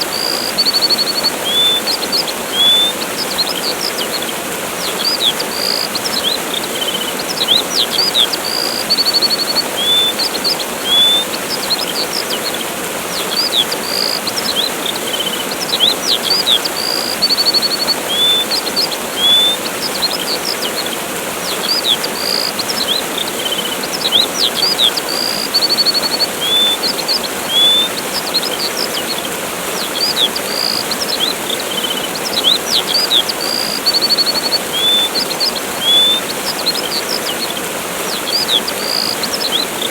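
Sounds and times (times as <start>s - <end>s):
songbirds chirping: 0.0s - 39.9s
waterfall rushing: 0.0s - 39.9s.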